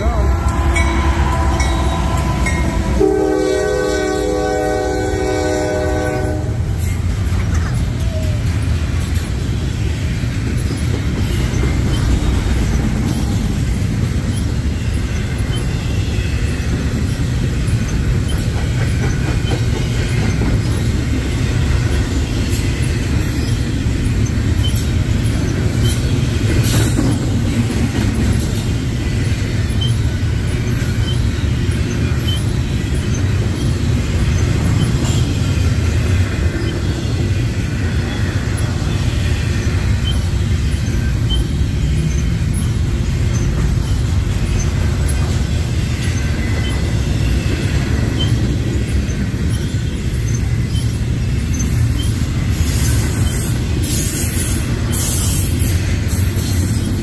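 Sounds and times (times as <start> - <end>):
freight train rumbling on rails: 0.0 - 57.0
wheel squeaks: 6.8 - 57.0.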